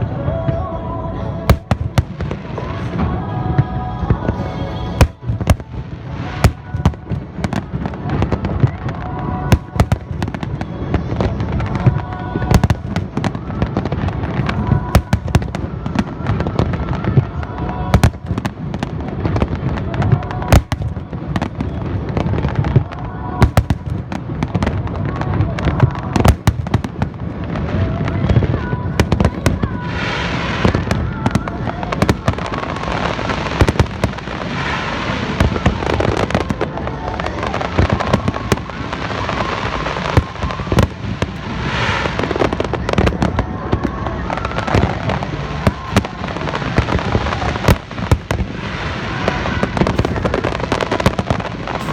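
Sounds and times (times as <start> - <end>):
fireworks crackling and hiss: 1.5 - 51.9.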